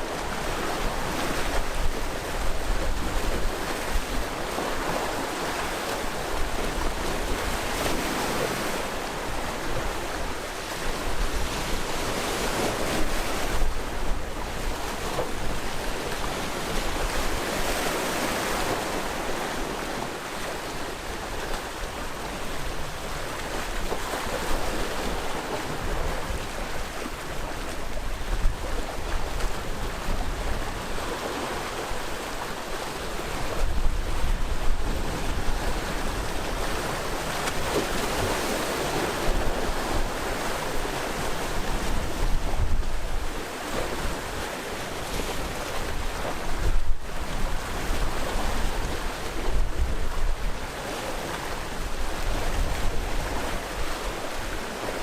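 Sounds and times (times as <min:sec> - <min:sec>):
wind rumble on microphone: 0:00.0 - 0:20.1, 0:20.7 - 0:55.0
sea waves breaking on shore: 0:00.0 - 0:55.0.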